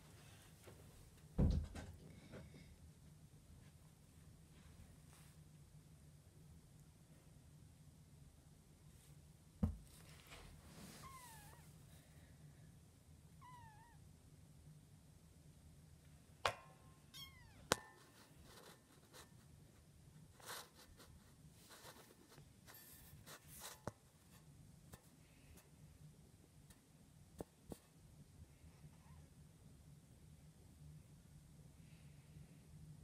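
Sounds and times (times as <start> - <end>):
quiet background hum: 0.0 - 33.0.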